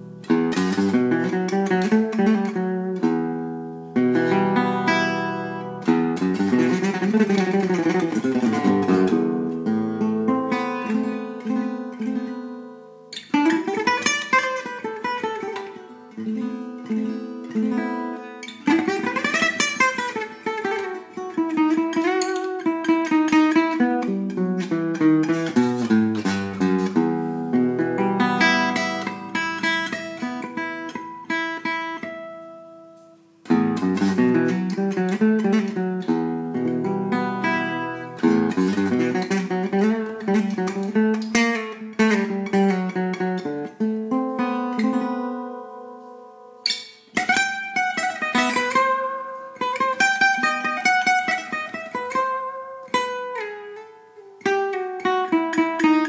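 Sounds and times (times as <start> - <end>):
gypsy jazz guitar: 0.0 - 56.0.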